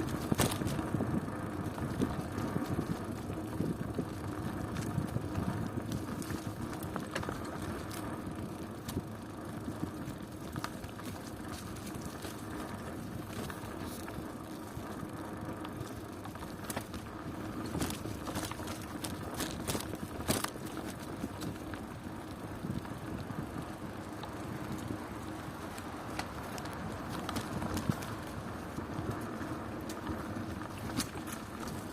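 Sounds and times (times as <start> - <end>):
bicycle clicks and rattles: 0.0 - 31.9
bicycle tyre and drivetrain noise: 0.0 - 31.9.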